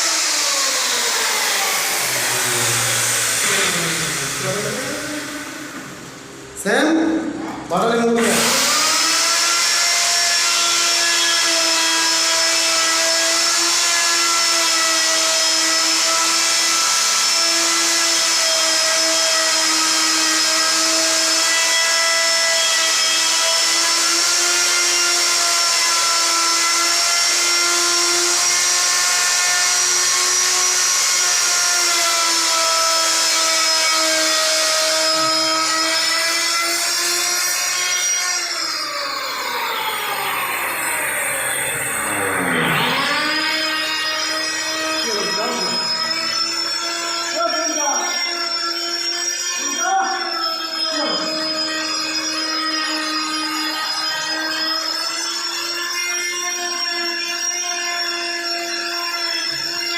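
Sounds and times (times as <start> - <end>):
router motor whining: 0.0 - 6.5, 7.6 - 59.9.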